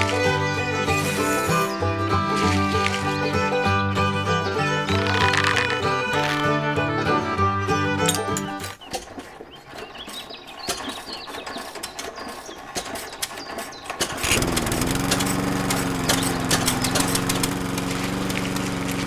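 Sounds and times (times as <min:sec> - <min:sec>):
small motor humming: 0:00.0 - 0:19.0.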